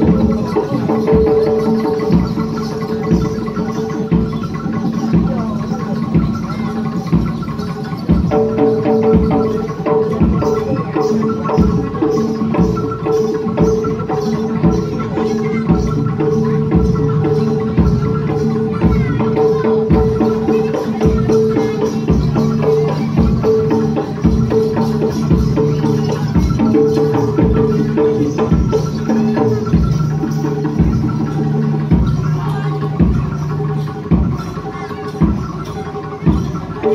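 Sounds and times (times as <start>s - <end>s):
drums keeping a steady beat: 0.0s - 36.9s
held melodic tones: 0.0s - 36.9s.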